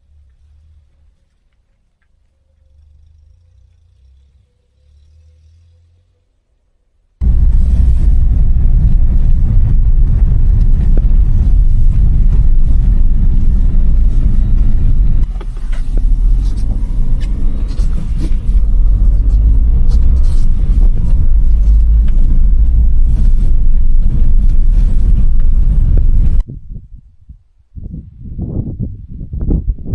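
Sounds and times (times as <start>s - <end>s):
low rumble of vehicle: 0.0s - 27.5s.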